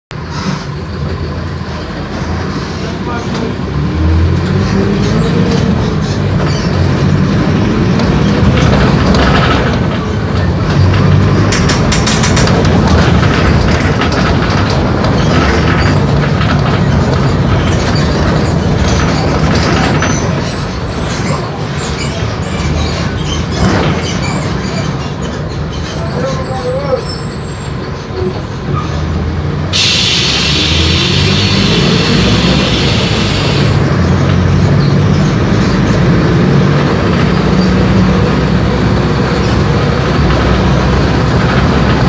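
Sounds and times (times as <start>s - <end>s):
bus diesel engine droning: 0.2s - 42.0s
bus body rattle: 5.5s - 42.0s.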